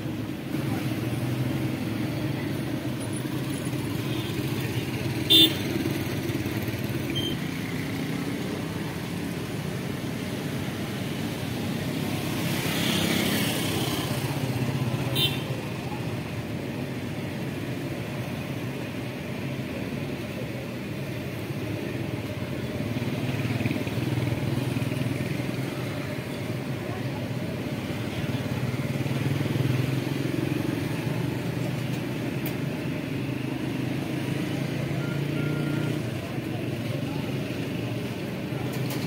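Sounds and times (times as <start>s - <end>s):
motorcycle and rickshaw engines passing: 0.0s - 39.0s.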